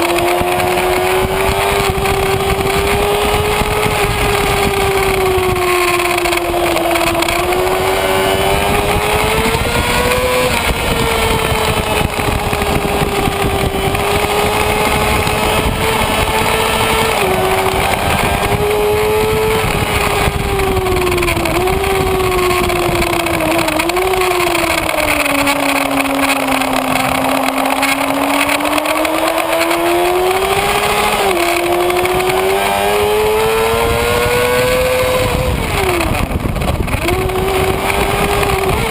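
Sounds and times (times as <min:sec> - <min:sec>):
motorcycle engine revving: 0:00.0 - 0:38.9
wind rushing on microphone: 0:00.0 - 0:38.9.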